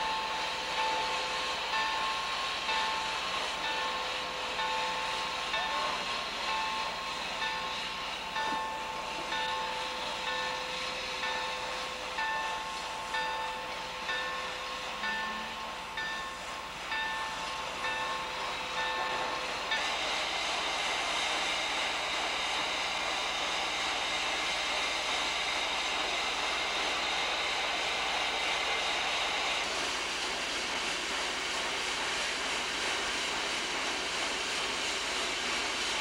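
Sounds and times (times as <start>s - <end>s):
steam train running: 0.0s - 36.0s.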